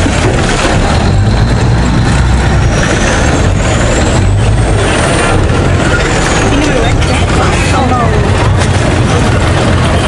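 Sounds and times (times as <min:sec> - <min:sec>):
ferry engine humming: 0:00.0 - 0:10.0
steady rush of noise: 0:00.0 - 0:10.0.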